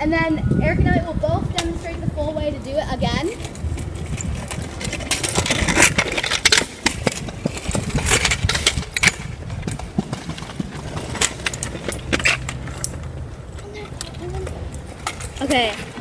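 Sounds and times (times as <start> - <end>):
kick scooter rolling over pavement: 1.2 - 16.0.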